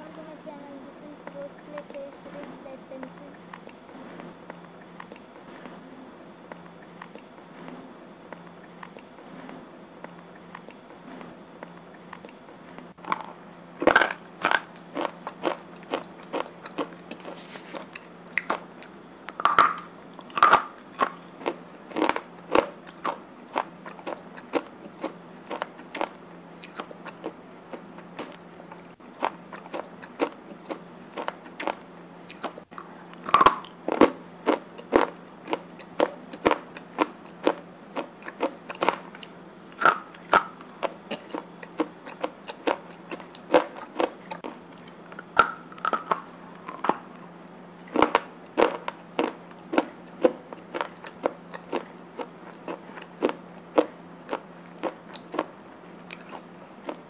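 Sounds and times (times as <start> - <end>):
steady low hum: 0.0 - 57.0
chewing crunches: 6.5 - 57.0.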